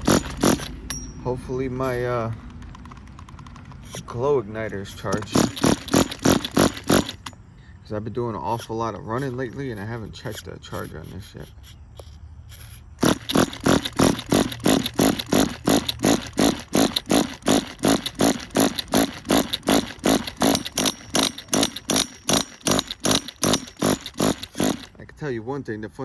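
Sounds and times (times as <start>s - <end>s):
small engine cranking without firing: 0.0s - 7.6s, 8.4s - 25.1s.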